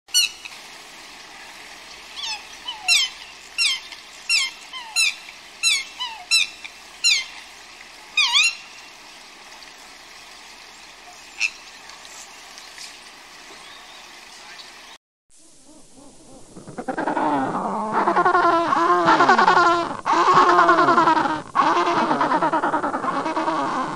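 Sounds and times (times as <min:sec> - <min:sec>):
bird calling: 0:00.1 - 0:00.7, 0:01.4 - 0:09.0, 0:10.3 - 0:23.9
background hiss: 0:00.1 - 0:23.9.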